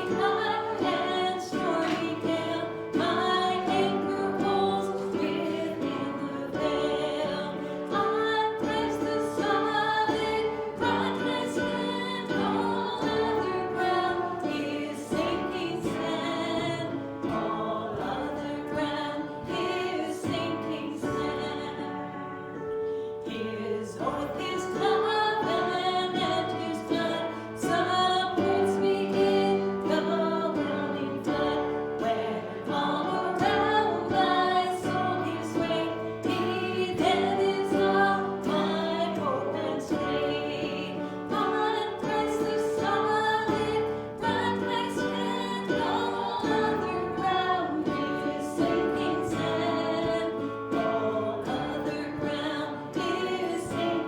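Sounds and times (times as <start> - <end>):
congregation singing a hymn: 0.0 - 54.0
instrumental accompaniment: 0.0 - 54.0.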